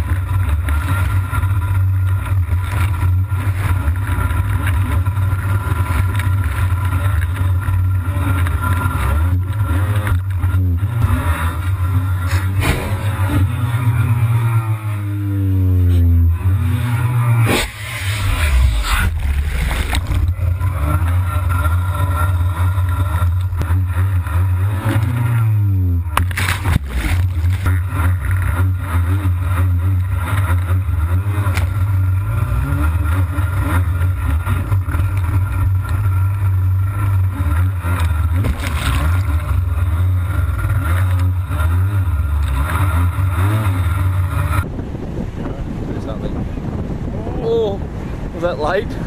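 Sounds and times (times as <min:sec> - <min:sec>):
jet ski engine revving: 0:00.0 - 0:45.2.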